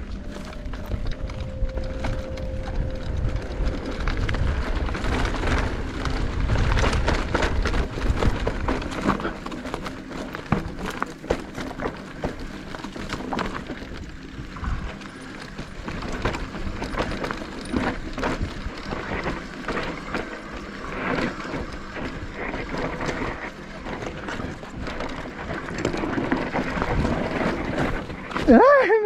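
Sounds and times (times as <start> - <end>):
bike rattling on dirt trail: 0.0 - 29.0
tyre noise: 0.0 - 29.0.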